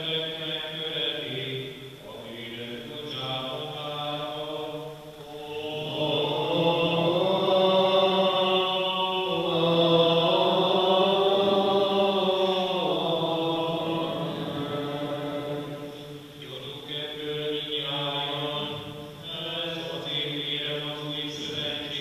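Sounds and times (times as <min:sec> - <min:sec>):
low male chant: 0:00.0 - 0:22.0.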